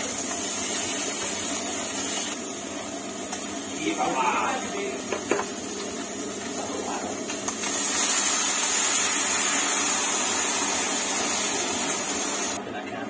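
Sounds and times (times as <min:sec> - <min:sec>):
water sizzling in hot pan: 0:00.0 - 0:12.6.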